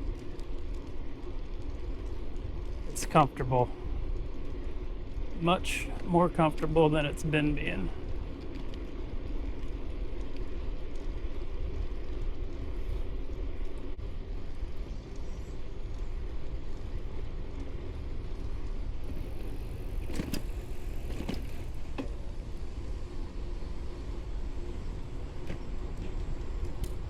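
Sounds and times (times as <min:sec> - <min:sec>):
bicycle riding noise: 0:00.0 - 0:27.0.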